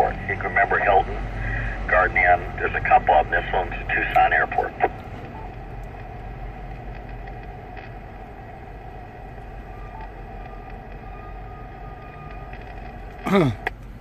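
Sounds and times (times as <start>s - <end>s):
low hum and hiss in car: 0.0s - 14.0s.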